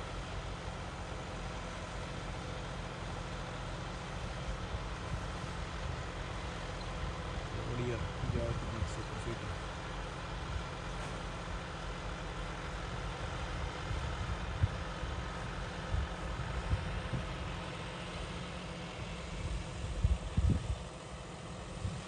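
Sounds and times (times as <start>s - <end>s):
distant tractor engine hum: 0.0s - 22.0s.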